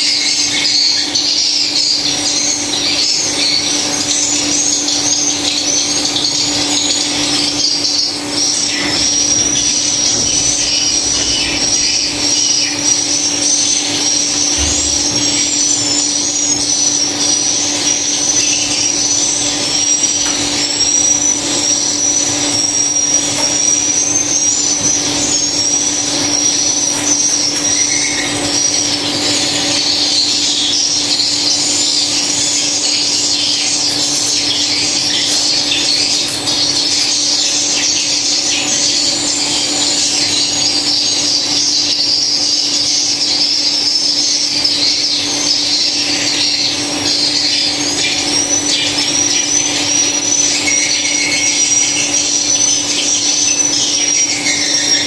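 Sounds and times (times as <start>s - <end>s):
swiftlets chirping: 0.0s - 55.0s.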